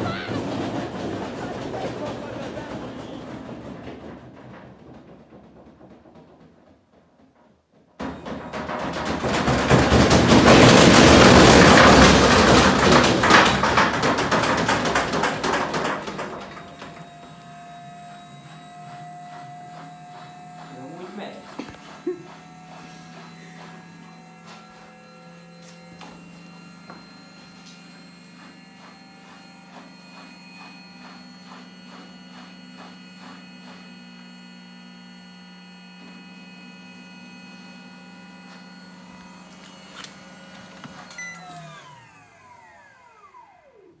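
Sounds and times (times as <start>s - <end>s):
washing machine humming: 0.0s - 44.0s.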